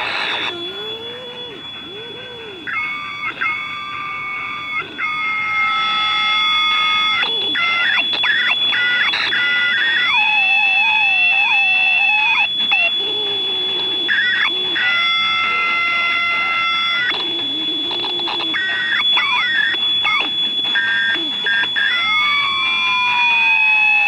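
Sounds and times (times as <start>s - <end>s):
steady high tone: 0.0s - 24.0s
warbling radio interference whistles: 0.0s - 24.0s.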